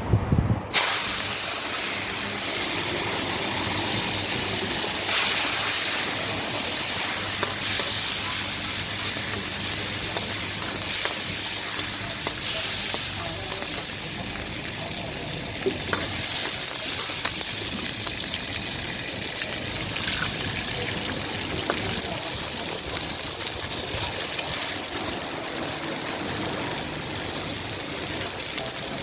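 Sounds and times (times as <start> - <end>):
food sizzling in a pan: 0.7 - 29.0.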